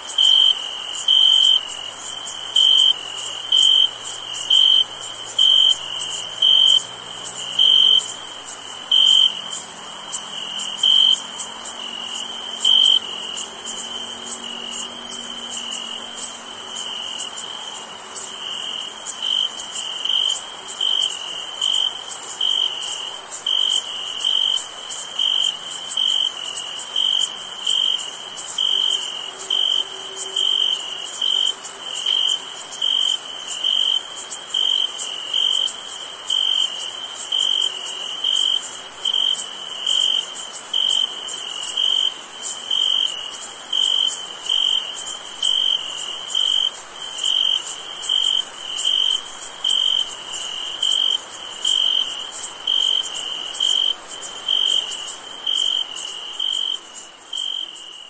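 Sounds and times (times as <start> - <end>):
cricket chirping: 0.0 - 58.0
high shimmering insect hiss: 0.1 - 58.0.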